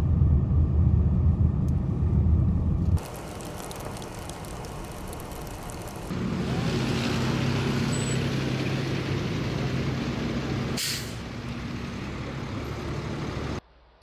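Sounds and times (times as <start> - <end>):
steady engine hum: 0.0 - 14.0.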